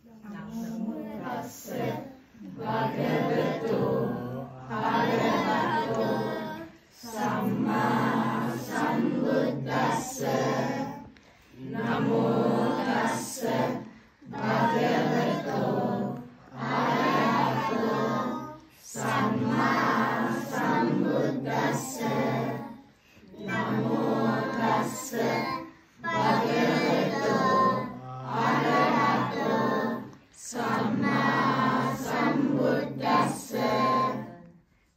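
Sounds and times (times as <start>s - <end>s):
children singing in unison: 0.0s - 34.7s.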